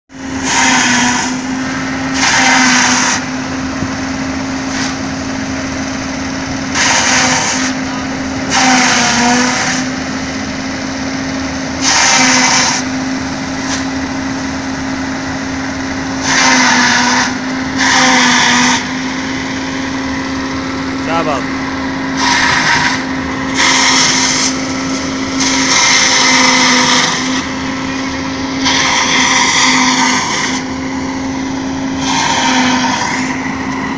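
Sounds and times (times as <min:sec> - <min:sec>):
fodder chopper humming: 0:00.1 - 0:33.9.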